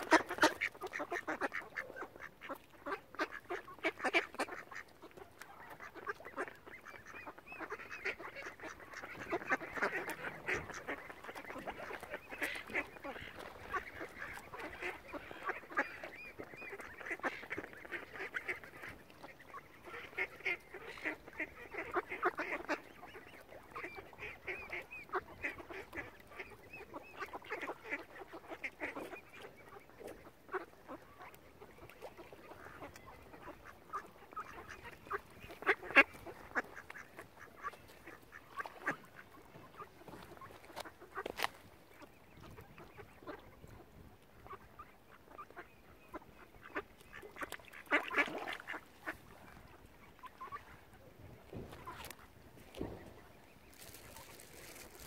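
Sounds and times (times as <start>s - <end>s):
ducks calling: 0.0s - 43.8s, 44.4s - 55.0s.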